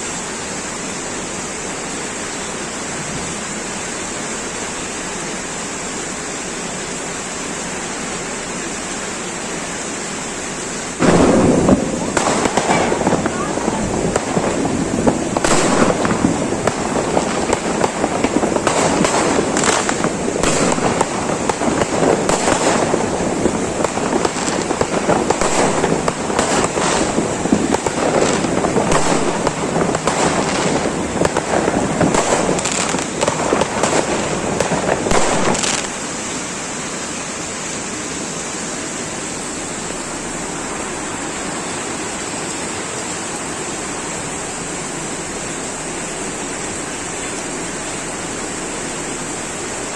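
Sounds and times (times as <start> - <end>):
heavy rain pouring: 0.0 - 49.9
water rushing: 0.0 - 49.9.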